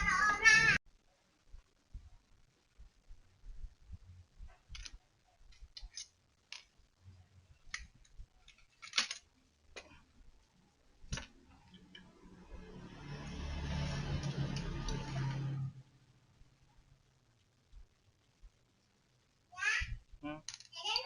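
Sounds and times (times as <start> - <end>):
low hum with hiss: 0.0 - 21.0.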